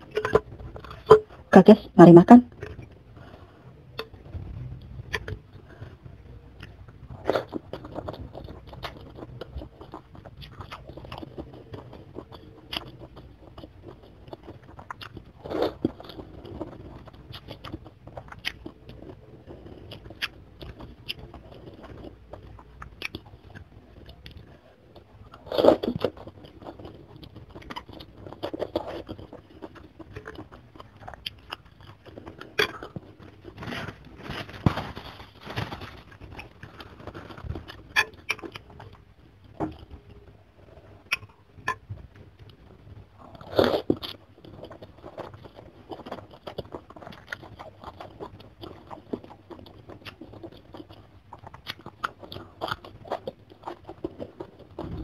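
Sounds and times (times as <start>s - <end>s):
chewing and crunching: 0.0s - 1.6s, 2.5s - 55.0s.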